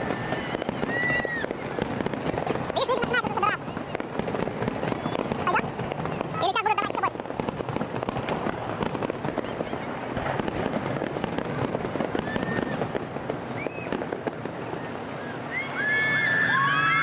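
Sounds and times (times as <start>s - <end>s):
fireworks crackling: 0.0s - 17.0s
fireworks whistling: 0.0s - 17.0s.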